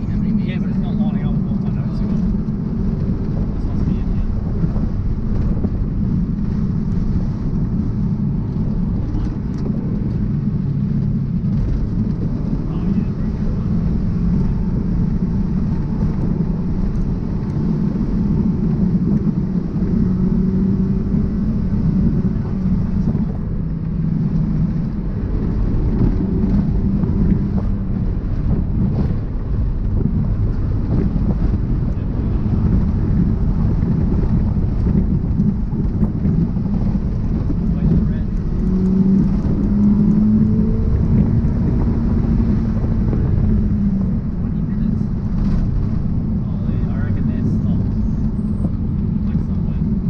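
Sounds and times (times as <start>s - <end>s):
car engine running hard: 0.0s - 50.0s
tyre and road noise: 0.0s - 50.0s.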